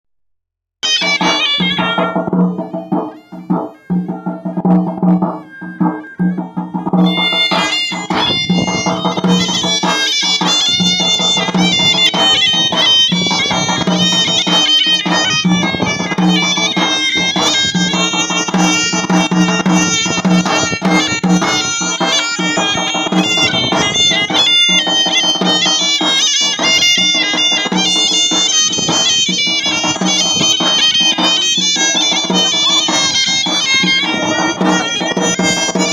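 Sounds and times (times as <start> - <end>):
drums beating: 0.8 - 35.9
piercing wind instrument melody: 0.8 - 35.9.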